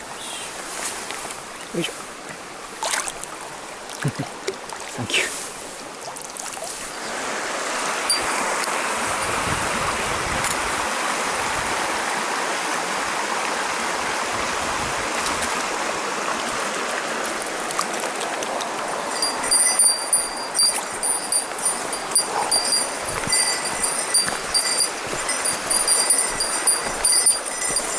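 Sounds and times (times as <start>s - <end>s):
water rushing over rocks: 0.7s - 27.9s.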